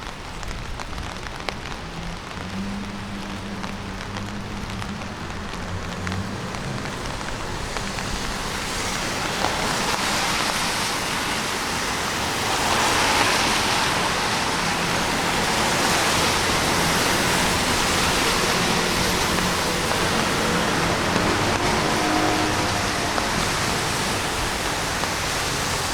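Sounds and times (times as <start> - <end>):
rain on a street: 0.0 - 25.9.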